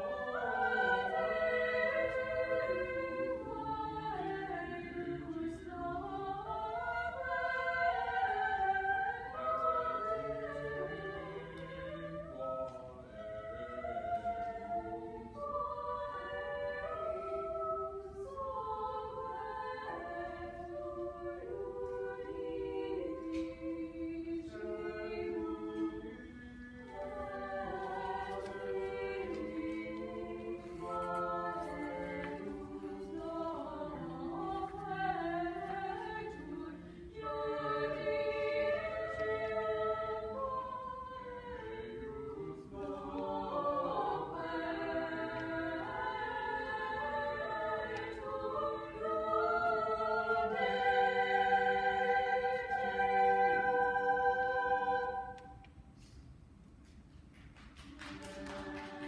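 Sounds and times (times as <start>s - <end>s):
vocal ensemble singing a cappella: 0.0s - 56.2s, 57.7s - 59.0s.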